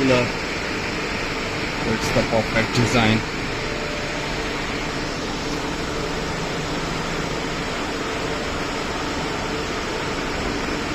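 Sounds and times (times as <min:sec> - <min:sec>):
air compressor whirring: 0:00.0 - 0:10.9.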